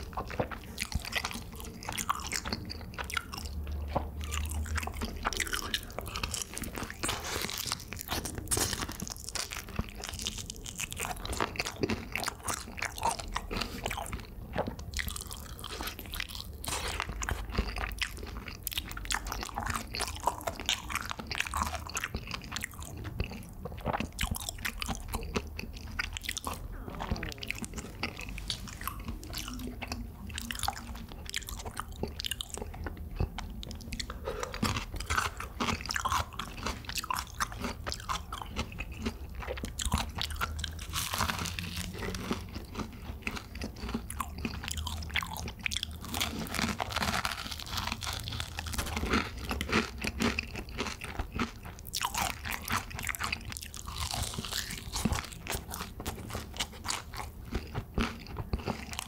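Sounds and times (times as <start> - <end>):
crunching fried chicken: 0.0 - 59.0.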